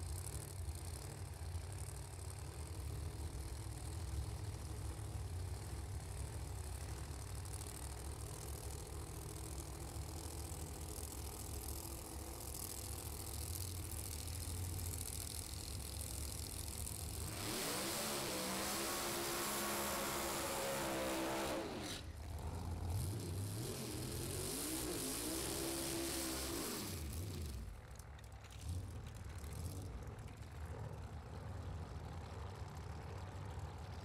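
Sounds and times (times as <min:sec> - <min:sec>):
drag car engines revving: 0:00.0 - 0:34.0.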